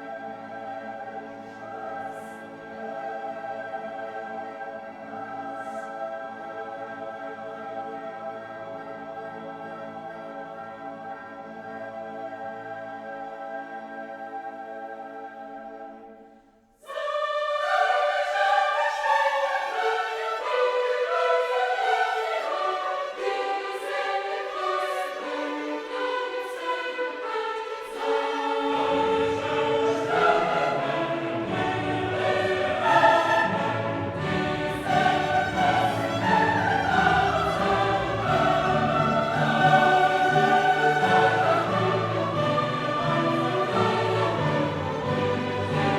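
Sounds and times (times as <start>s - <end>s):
choir singing: 0.0s - 45.9s
orchestral music: 0.0s - 45.9s.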